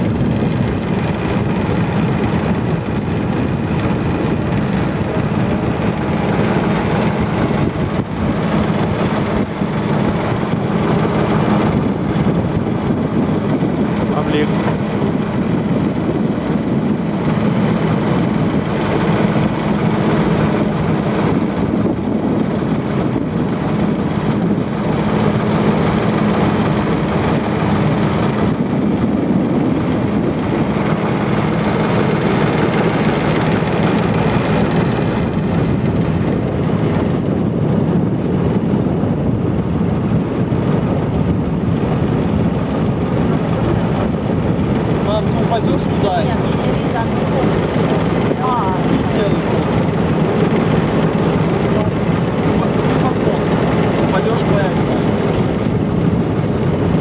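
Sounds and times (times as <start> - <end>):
water rushing: 0.0 - 37.2, 38.1 - 57.0
motor boat engine droning: 0.0 - 57.0
wind: 0.0 - 57.0.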